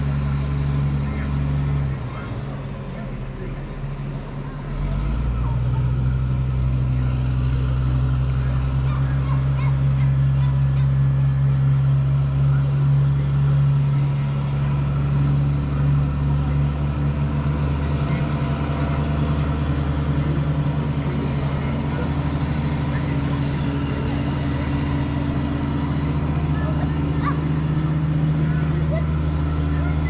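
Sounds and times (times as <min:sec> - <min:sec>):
heavy vehicle engine idling: 0:00.0 - 0:30.0.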